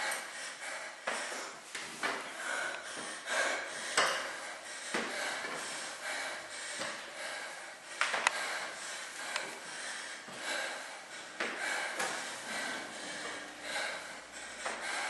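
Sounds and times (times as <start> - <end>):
woman panting hard: 0.0 - 15.0.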